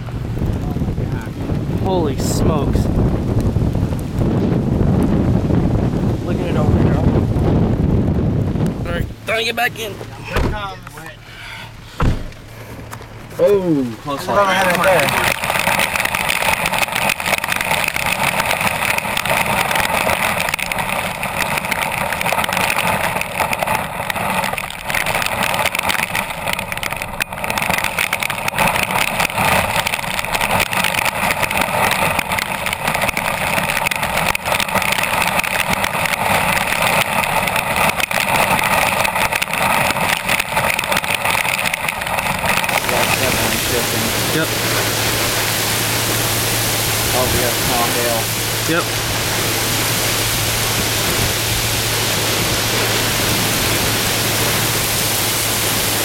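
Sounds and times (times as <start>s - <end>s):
heavy rain on car roof: 0.0s - 56.0s
wind: 0.0s - 56.0s.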